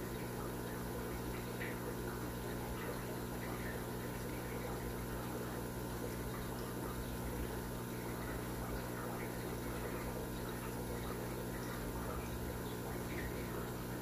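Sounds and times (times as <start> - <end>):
water bubbling from aquarium filters: 0.0 - 14.0.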